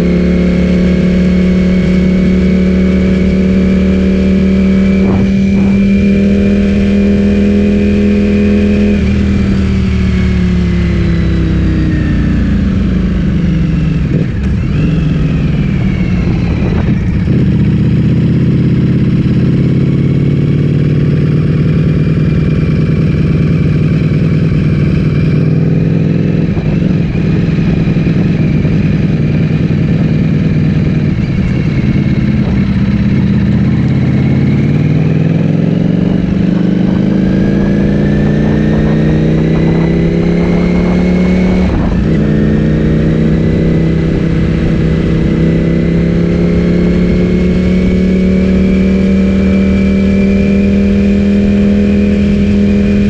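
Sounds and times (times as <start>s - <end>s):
motorcycle engine while riding: 0.0s - 53.0s.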